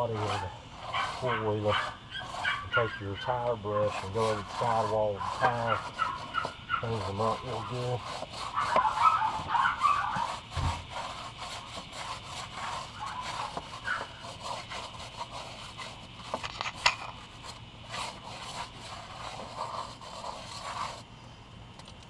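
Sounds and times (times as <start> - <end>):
brush scrubbing a tire: 0.0 - 21.1.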